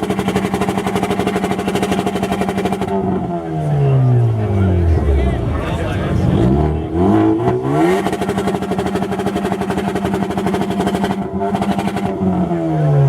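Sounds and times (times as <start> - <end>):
exhaust popping: 0.0 - 3.5, 4.1 - 12.4
car engine at rev limit: 0.0 - 13.0.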